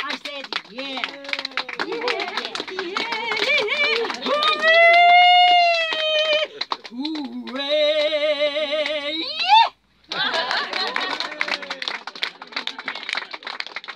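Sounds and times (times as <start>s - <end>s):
audience applause: 0.0s - 7.6s, 10.1s - 13.9s.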